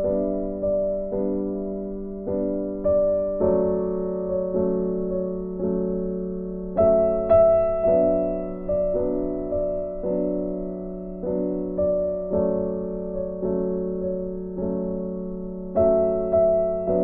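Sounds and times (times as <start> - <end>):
slow keyboard melody: 0.0 - 17.0.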